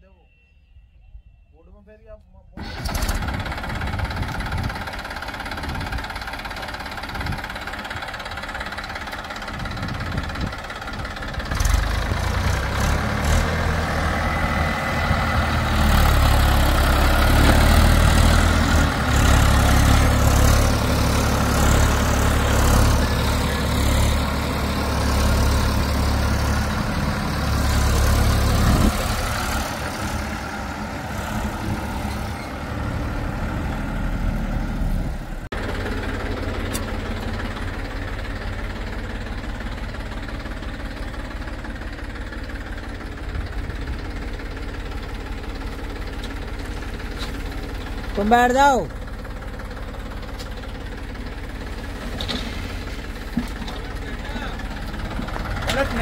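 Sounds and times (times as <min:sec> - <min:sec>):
tractor diesel engine under load: 0:02.6 - 0:56.0.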